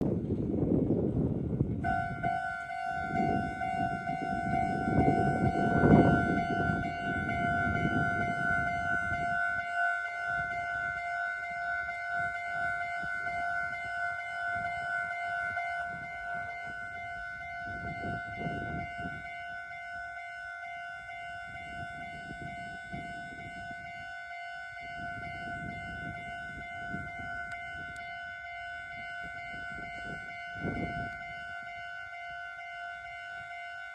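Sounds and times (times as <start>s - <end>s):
level crossing alarm ringing: 1.4s - 33.9s.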